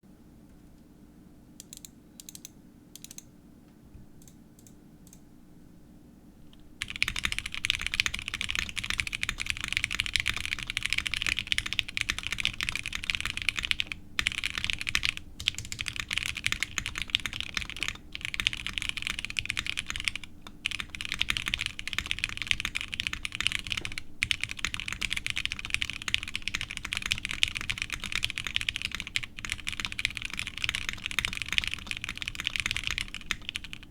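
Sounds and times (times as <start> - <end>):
mechanical keyboard typing: 1.6 - 3.2, 6.8 - 33.9.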